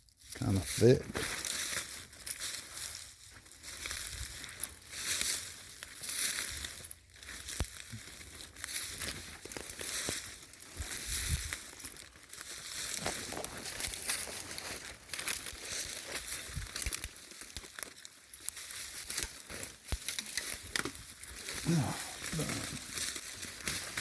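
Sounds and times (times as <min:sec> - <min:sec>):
footsteps crunching through dry leaves: 0:00.1 - 0:24.0
twigs scraping against clothing: 0:00.1 - 0:24.0.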